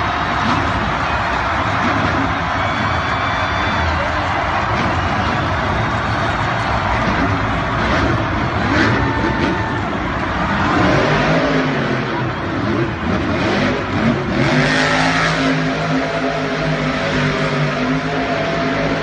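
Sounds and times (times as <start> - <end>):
racing truck engines revving: 0.0 - 19.0.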